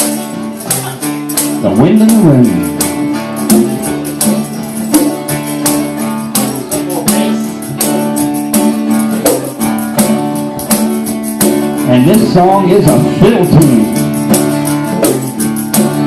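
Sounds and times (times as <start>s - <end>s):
tambourine: 0.0s - 12.3s, 13.0s - 16.0s
strummed guitar: 0.0s - 16.0s.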